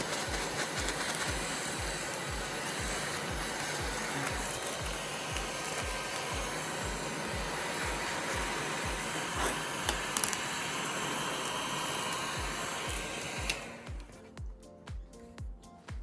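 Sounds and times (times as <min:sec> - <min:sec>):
heat gun blowing: 0:00.0 - 0:14.4
music with steady beat: 0:00.0 - 0:16.0.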